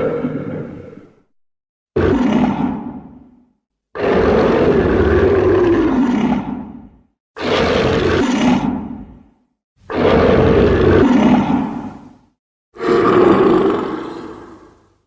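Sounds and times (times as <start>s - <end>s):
monster roars: 0.0s - 1.2s, 1.9s - 9.3s, 9.9s - 12.2s, 12.8s - 15.0s.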